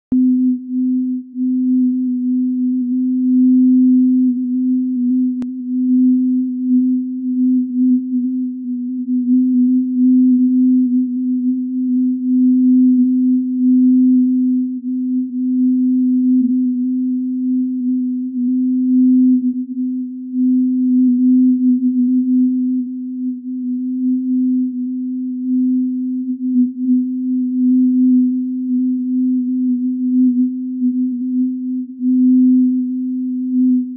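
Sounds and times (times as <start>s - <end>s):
low sine tone: 0.0s - 33.9s.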